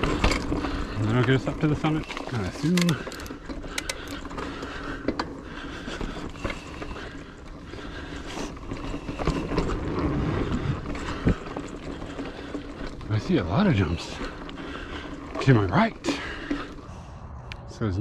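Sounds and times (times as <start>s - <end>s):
bike rattling and clicking: 0.0s - 17.0s
bike tyres rumbling on dirt: 0.0s - 17.1s.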